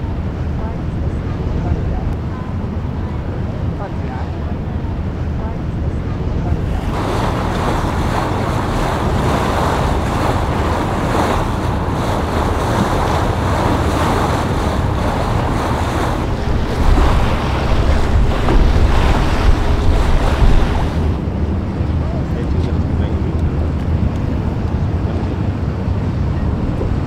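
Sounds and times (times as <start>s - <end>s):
open water wash: 0.0s - 27.0s
wind buffeting microphone: 0.0s - 27.0s.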